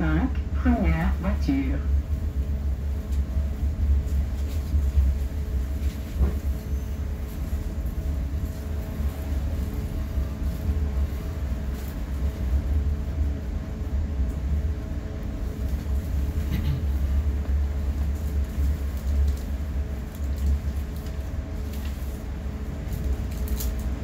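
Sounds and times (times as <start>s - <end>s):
faint steady hum: 0.0s - 24.0s
rail coach rumble: 0.0s - 24.0s.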